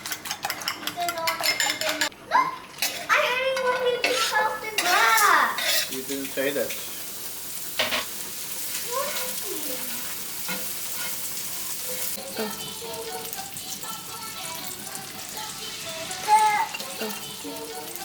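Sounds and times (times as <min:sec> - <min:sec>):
food sizzling in a frying pan: 0:00.5 - 0:18.0.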